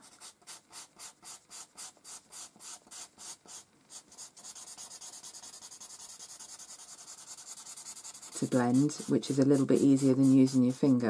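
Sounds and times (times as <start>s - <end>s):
blending stump rubbing paper: 0.0s - 11.0s.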